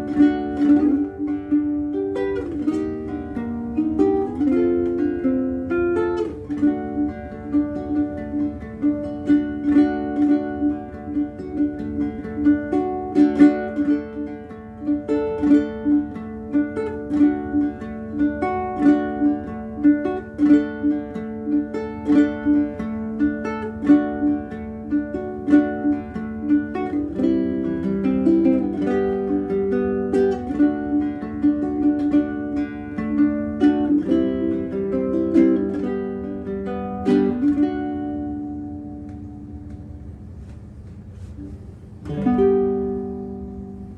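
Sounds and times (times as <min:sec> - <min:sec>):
ukulele plucking and chords: 0:00.0 - 0:43.9.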